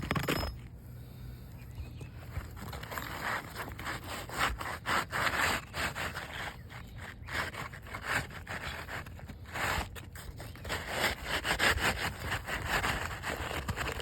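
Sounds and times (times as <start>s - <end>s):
tools scraping roof shingles: 2.3s - 14.0s.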